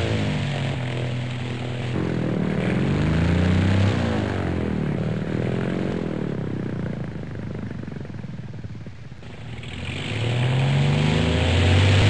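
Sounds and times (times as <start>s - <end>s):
propeller airplane engine droning: 0.0s - 12.0s.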